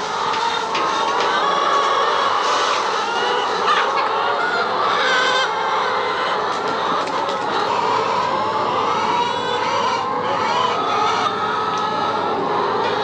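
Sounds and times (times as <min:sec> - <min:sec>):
hens clucking and squawking: 0:00.0 - 0:13.0.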